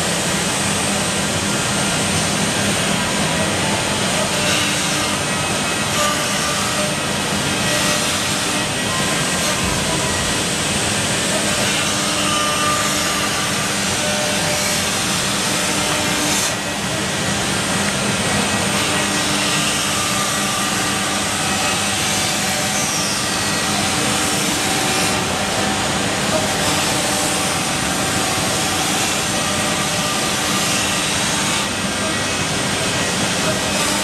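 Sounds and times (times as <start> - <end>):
router spindle whine: 0.0 - 34.0
wood cutting noise: 0.0 - 34.0.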